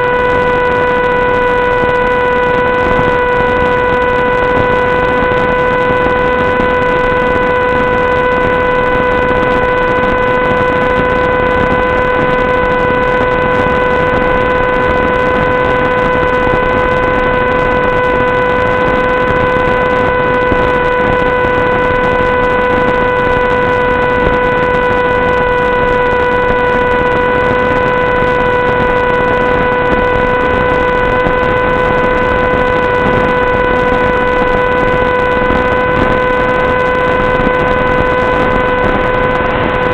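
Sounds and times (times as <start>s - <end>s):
steady electronic buzz: 0.0s - 39.9s.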